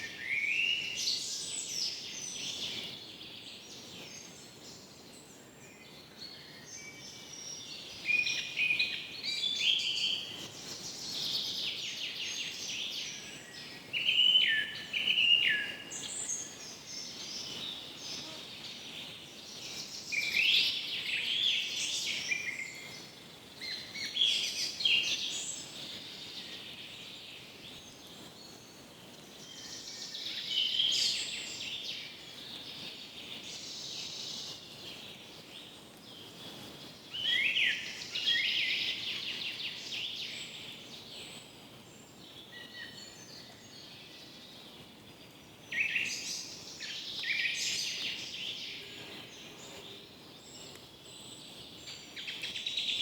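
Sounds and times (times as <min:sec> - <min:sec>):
faint background hiss: 0:00.0 - 0:53.0
songbirds singing: 0:00.0 - 0:53.0.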